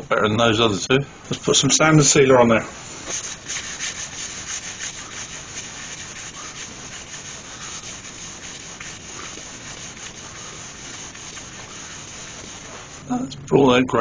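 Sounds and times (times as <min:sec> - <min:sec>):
paper towel rubbing on spinning wood: 0:01.5 - 0:13.2.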